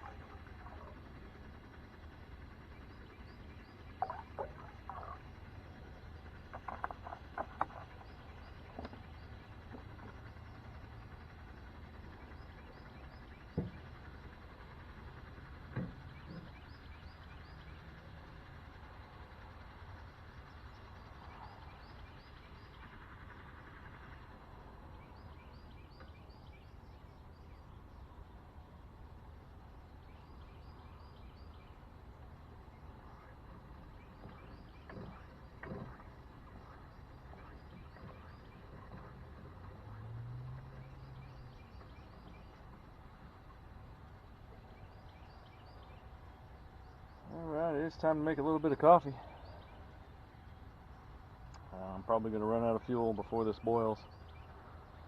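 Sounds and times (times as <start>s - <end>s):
faint birdsong chirping: 0.0s - 55.0s
low steady hum: 0.0s - 55.0s
steady low rumble: 0.0s - 55.0s.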